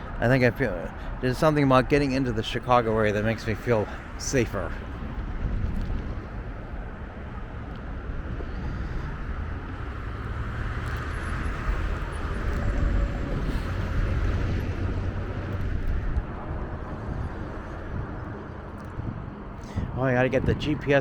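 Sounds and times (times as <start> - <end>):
low vehicle rumble: 0.0 - 21.0.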